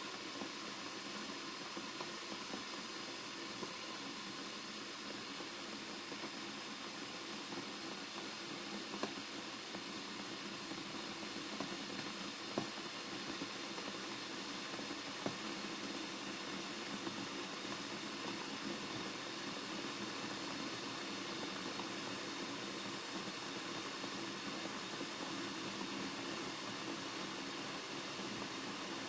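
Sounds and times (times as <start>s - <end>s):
kettle heating water hiss: 0.0s - 29.0s.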